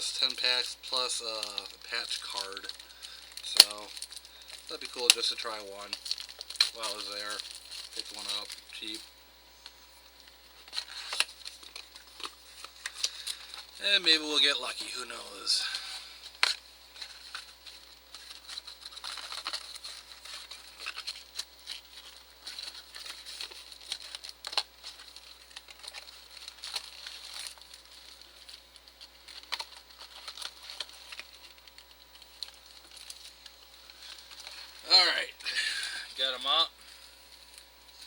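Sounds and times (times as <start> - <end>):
packaging crinkling and tearing: 0.1 - 9.0, 10.0 - 38.0.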